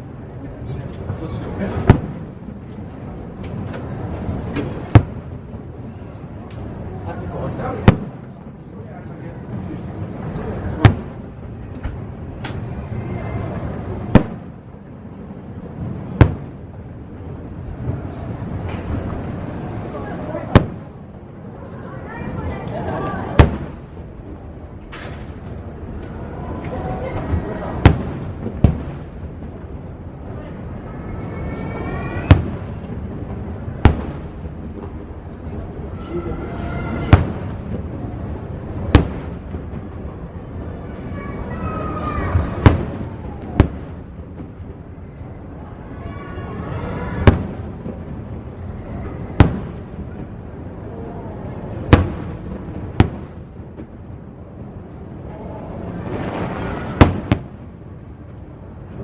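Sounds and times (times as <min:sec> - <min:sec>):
background rumble: 0:00.0 - 0:59.0
fireworks booming: 0:00.0 - 0:59.0.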